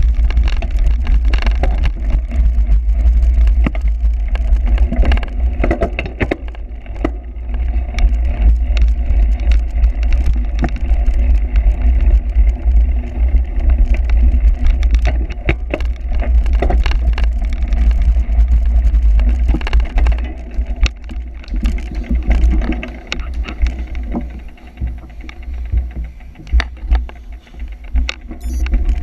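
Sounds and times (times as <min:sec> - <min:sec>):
bike rattling over rough ground: 0:00.0 - 0:29.0
wind rumble on microphone: 0:00.0 - 0:29.0.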